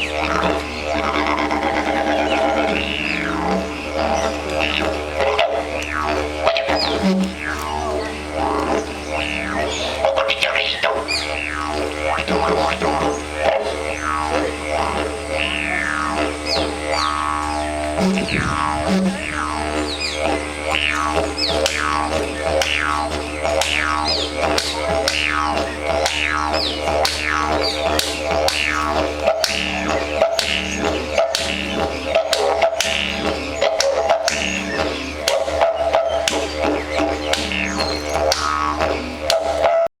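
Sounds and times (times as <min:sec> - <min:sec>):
didgeridoo drone: 0:00.0 - 0:39.9.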